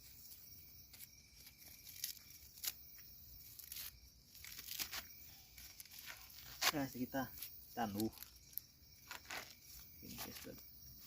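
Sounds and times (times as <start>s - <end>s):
corn husks rustling and tearing: 0.3s - 10.6s.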